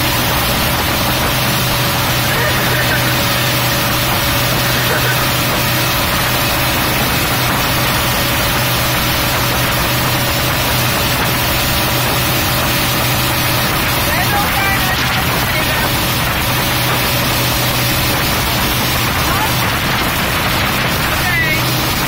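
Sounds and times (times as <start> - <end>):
boat engine humming: 0.0 - 22.0
churning wake water: 0.0 - 22.0
rush of wind: 0.0 - 22.0.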